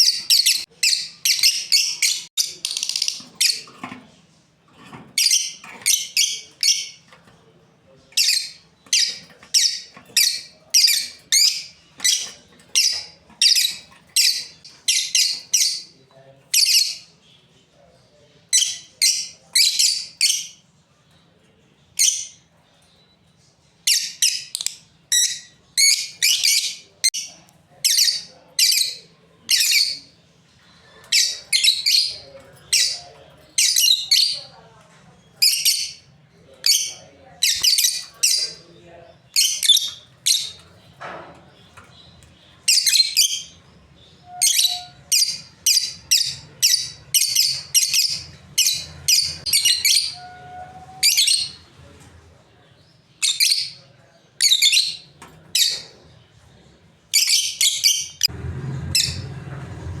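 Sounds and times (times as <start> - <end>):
lovebirds chirping: 0.0 - 17.7, 18.5 - 52.0, 52.7 - 58.3.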